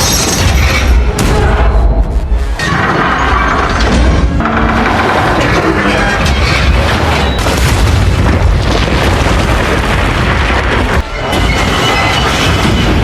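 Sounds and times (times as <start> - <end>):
booming and crashing destruction: 0.0 - 13.0.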